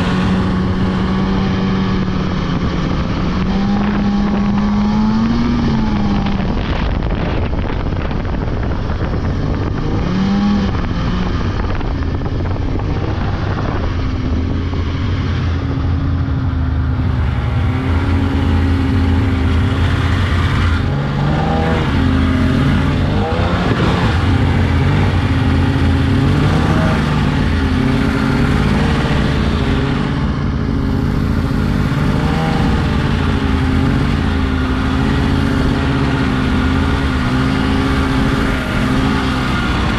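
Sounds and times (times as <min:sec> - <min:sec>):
snowmobile engine running: 0:00.0 - 0:39.9
steady rush of noise: 0:00.0 - 0:39.9.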